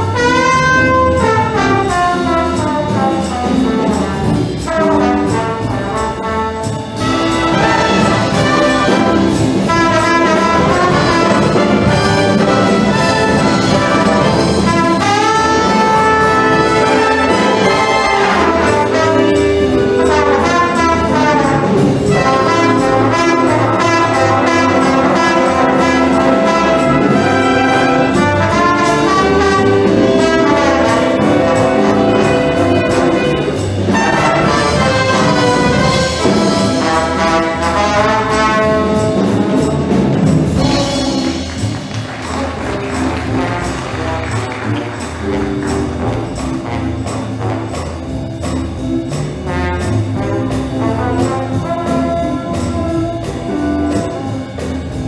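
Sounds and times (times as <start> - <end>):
brass band playing swing: 0.0 - 55.0
trumpets and trombones holding chords: 0.0 - 55.0.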